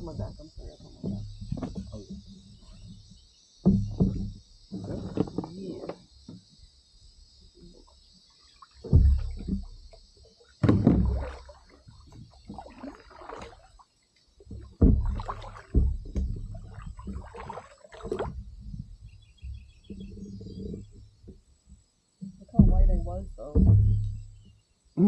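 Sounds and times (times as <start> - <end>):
heavy thumps in a kayak: 0.0 - 6.7, 8.8 - 13.7, 14.4 - 21.6, 22.2 - 24.7.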